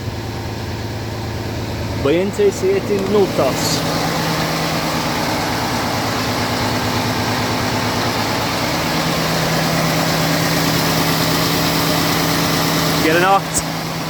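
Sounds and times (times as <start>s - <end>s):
truck diesel engine humming: 0.0s - 14.0s.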